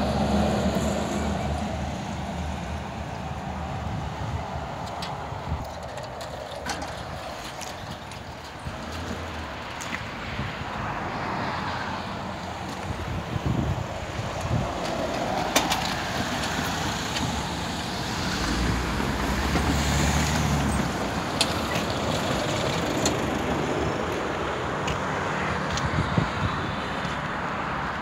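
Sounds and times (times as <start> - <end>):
engine passing close: 0.0 - 8.0, 10.7 - 28.0
cars driving over level crossing: 0.0 - 28.0.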